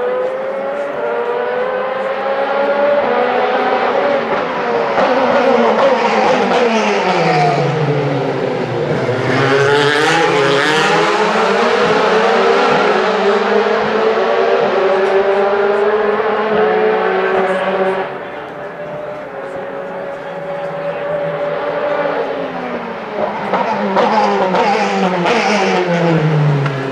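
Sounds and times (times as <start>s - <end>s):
race car engines passing: 0.0s - 26.9s.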